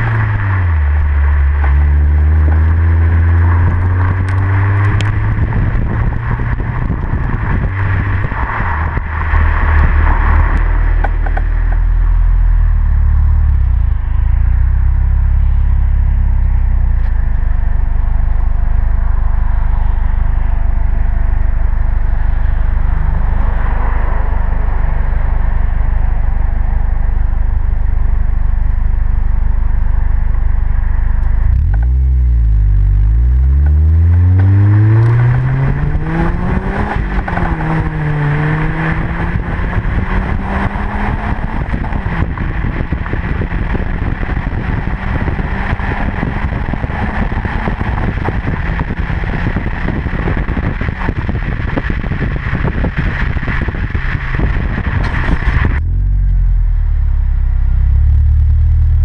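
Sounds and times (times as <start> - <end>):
car exhaust drone: 0.0 - 59.0
wind and road noise: 0.0 - 59.0.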